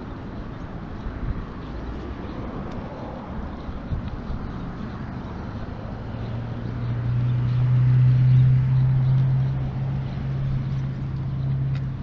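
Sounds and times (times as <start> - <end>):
outdoor background noise: 0.0 - 12.0
low engine drone: 1.8 - 12.0.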